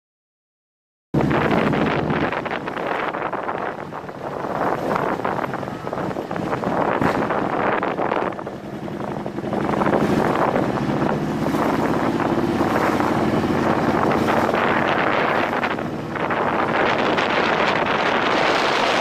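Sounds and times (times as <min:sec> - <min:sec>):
motorcycle engine accelerating: 0:01.2 - 0:19.0
wind noise on microphone: 0:01.2 - 0:19.0.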